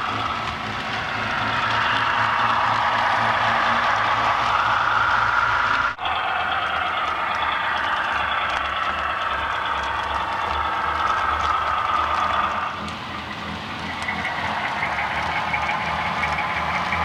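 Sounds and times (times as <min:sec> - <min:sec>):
model locomotive whining hum: 0:00.0 - 0:17.0.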